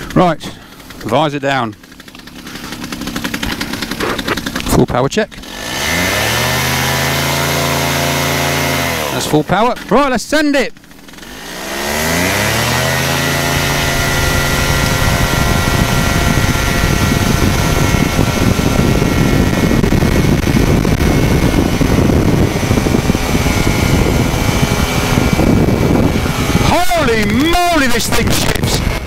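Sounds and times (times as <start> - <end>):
microlight engine and propeller: 0.0 - 29.0.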